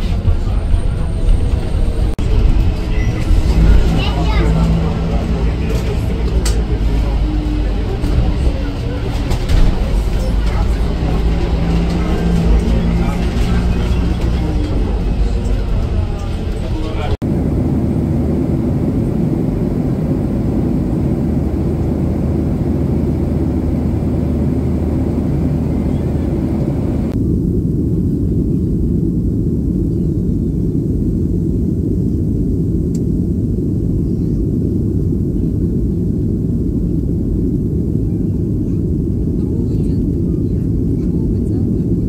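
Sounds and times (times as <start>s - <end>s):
jet engine rumble in cabin: 0.0s - 42.0s.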